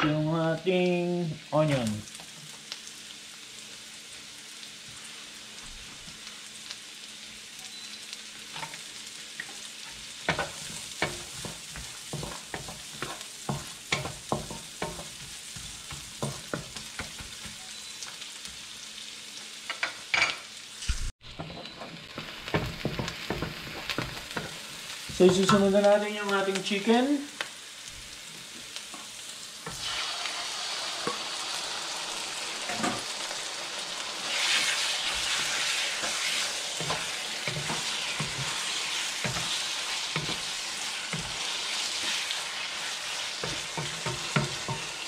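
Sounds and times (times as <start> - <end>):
onion sizzling in butter: 0.0 - 45.0.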